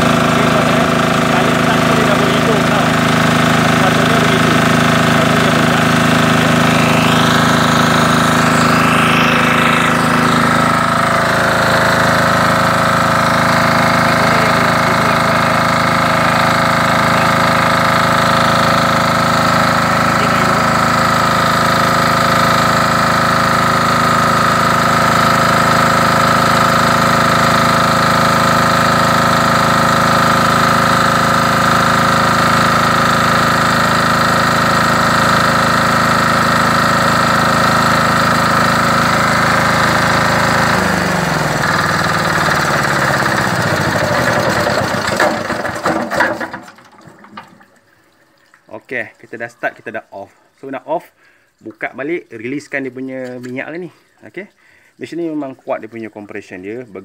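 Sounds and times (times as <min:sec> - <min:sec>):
diesel engine running a water pump: 0:00.0 - 0:49.5, 0:50.3 - 0:51.9, 0:53.1 - 0:55.9.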